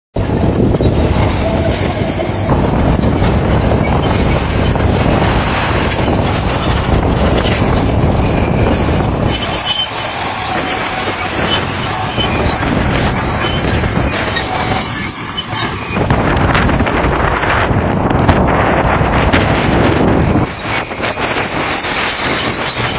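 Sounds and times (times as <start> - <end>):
diesel engine rumble: 0.1 - 22.9
metallic squealing of tracks: 0.2 - 17.3, 20.2 - 22.9.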